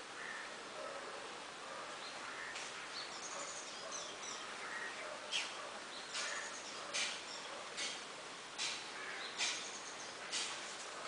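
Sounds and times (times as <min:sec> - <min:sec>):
steady background hiss: 0:00.0 - 0:11.0
small birds chirping: 0:01.8 - 0:11.0.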